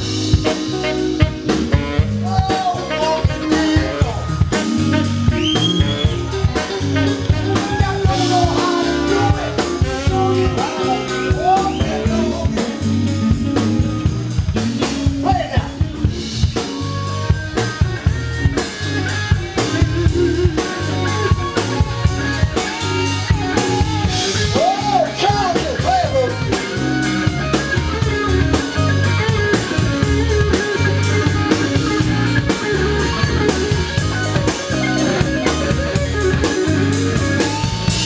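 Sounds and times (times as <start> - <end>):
blues band playing: 0.0 - 38.0
electric guitar bending notes: 0.0 - 38.0.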